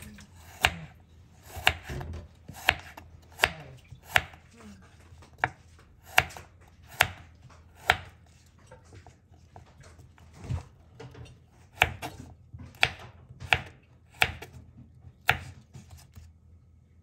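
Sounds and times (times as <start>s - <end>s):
knife cutting on wooden board: 0.0s - 10.6s, 11.5s - 14.6s, 15.2s - 16.3s.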